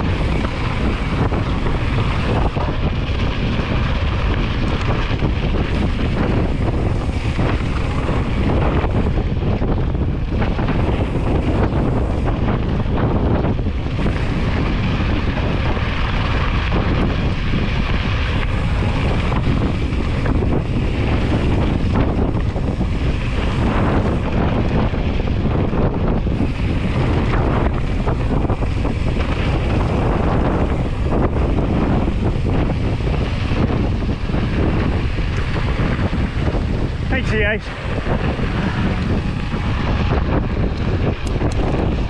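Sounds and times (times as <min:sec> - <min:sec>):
bike tyres rattling on rocky trail: 0:00.0 - 0:42.0
wind buffeting microphone: 0:00.0 - 0:42.0.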